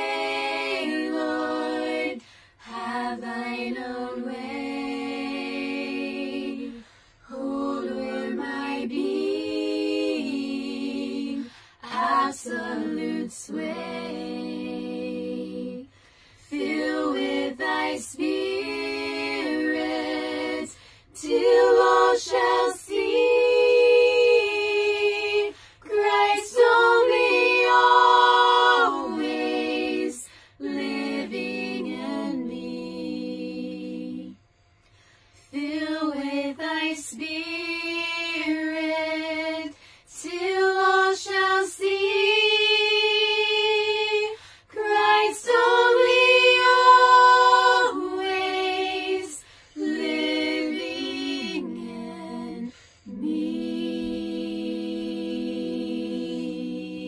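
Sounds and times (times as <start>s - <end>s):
women singing a hymn a cappella: 0.0s - 57.0s.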